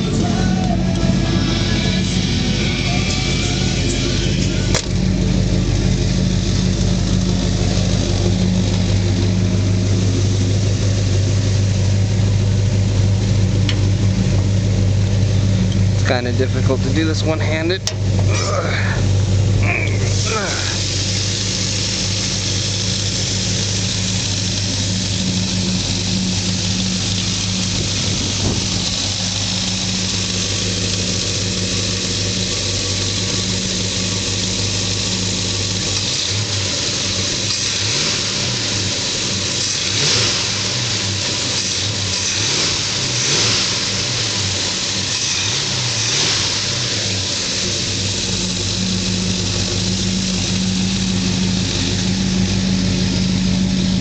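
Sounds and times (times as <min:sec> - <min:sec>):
car engine drone from inside: 0:00.0 - 0:54.0.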